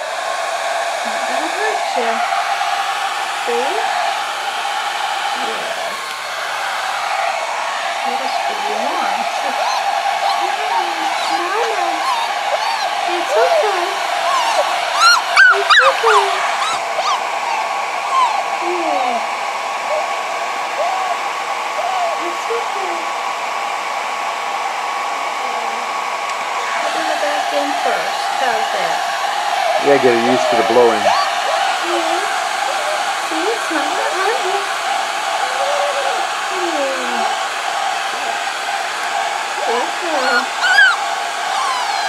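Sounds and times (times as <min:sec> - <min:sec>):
hair dryer blowing: 0:00.0 - 0:42.0.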